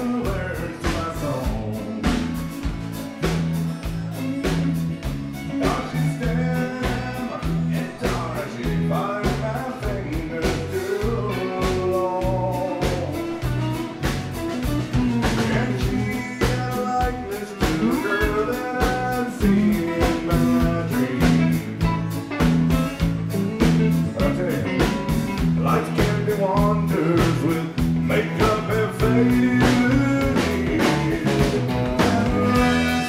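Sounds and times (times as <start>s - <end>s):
electric guitar: 0.0s - 33.0s
steady drum beat: 0.0s - 33.0s
strummed acoustic guitar: 0.0s - 33.0s.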